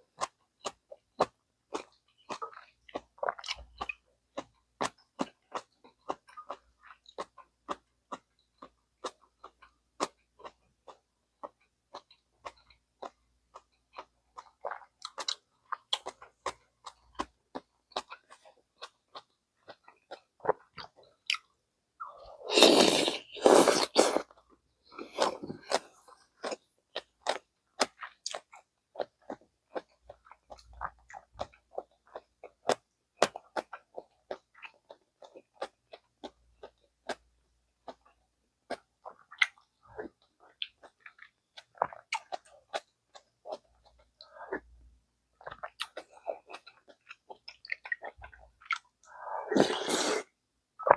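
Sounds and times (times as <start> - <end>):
wet chewing clicks and smacks: 0.2 - 21.6, 26.4 - 44.3, 45.4 - 49.1.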